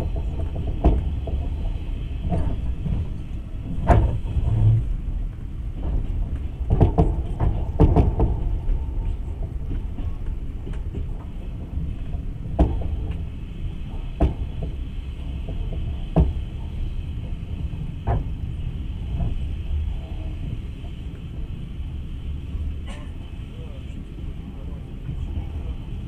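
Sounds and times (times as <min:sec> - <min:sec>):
train rumbling on track: 0:00.0 - 0:26.0
wheels clicking over rail joints: 0:00.0 - 0:26.0.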